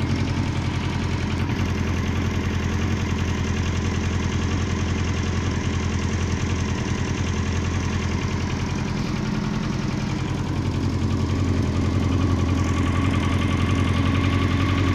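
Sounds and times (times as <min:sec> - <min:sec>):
knocking engine noise: 0:00.0 - 0:14.9
motorcycle engine idling: 0:00.0 - 0:14.9.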